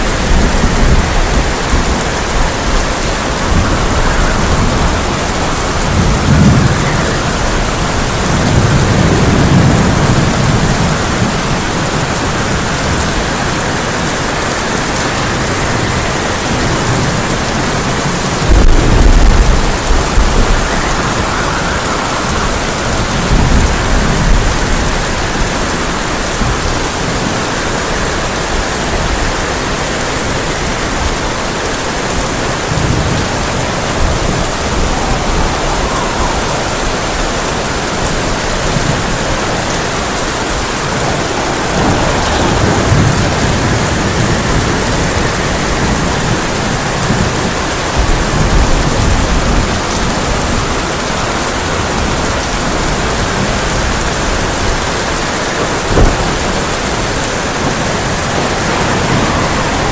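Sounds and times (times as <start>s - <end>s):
heavy rain on a tin roof: 0.0s - 59.9s
thunder crack: 0.0s - 59.9s
thunder rumbling: 0.0s - 59.9s
wind: 0.0s - 59.9s.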